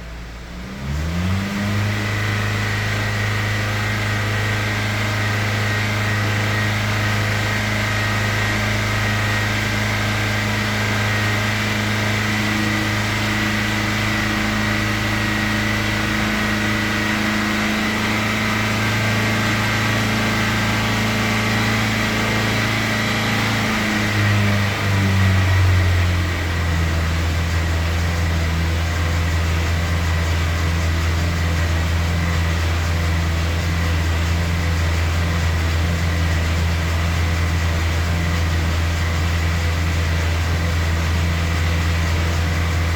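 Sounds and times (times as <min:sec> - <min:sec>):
car engine revving steadily: 0:00.0 - 0:42.9.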